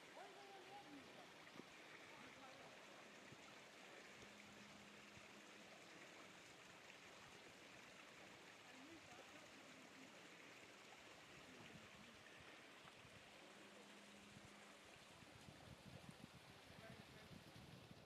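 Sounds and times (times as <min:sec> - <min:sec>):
faint distant voices: 0:00.0 - 0:15.5, 0:16.6 - 0:17.5
faint steady hiss: 0:00.0 - 0:18.0.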